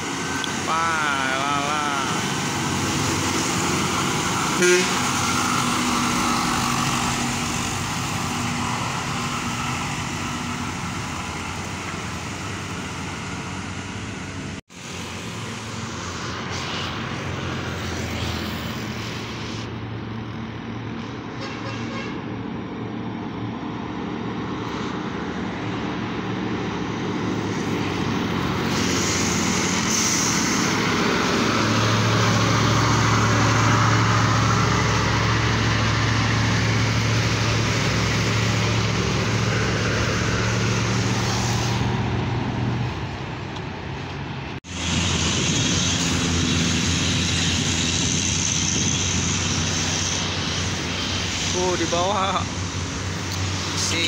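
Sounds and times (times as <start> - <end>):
diesel trucks labouring uphill: 0.0 - 54.0.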